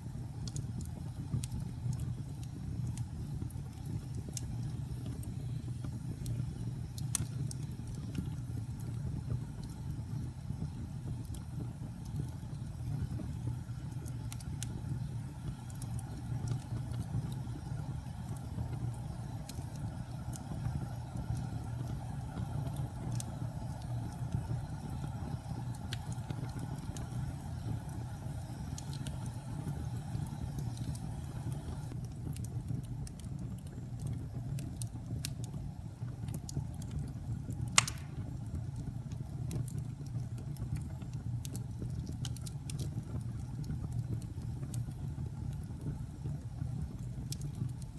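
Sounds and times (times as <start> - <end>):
fire roaring and crackling: 0.0 - 47.9.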